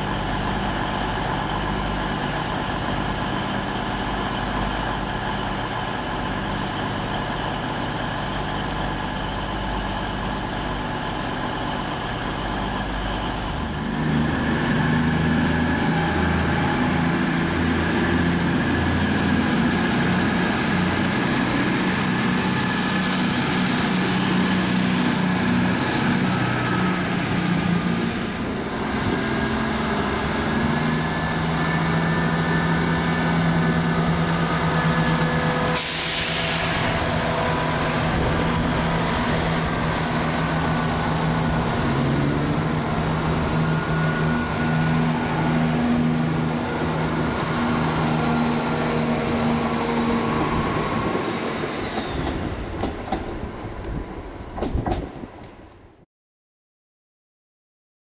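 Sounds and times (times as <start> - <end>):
diesel train engines idling: 0.0 - 54.5
diesel train pulling away: 0.0 - 55.7.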